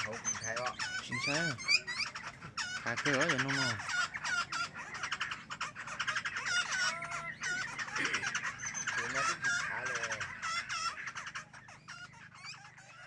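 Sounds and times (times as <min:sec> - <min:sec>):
songbirds chirping: 0:00.0 - 0:13.0
steady low hum: 0:00.0 - 0:13.0.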